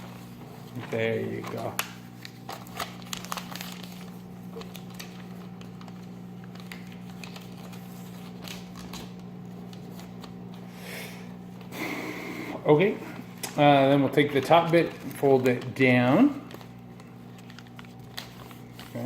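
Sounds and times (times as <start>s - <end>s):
paper crinkling and rustling: 0.0s - 10.7s, 13.3s - 19.0s
steady low hum: 0.0s - 19.0s.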